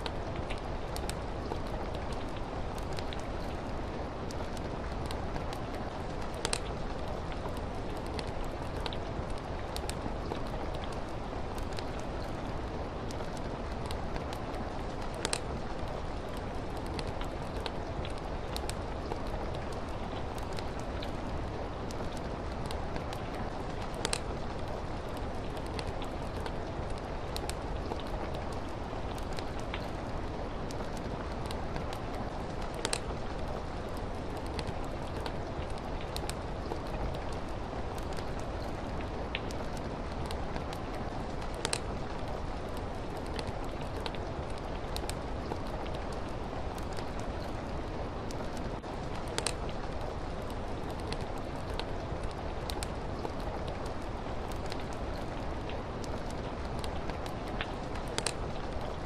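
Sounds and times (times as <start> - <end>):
fireplace crackling: 0.0 - 59.0
rain on a window: 0.0 - 59.0.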